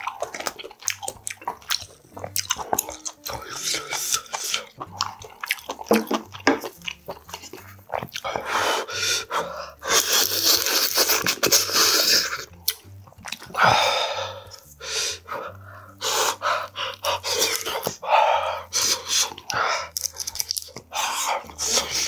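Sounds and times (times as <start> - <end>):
slurping and chewing noodles: 0.0 - 22.0.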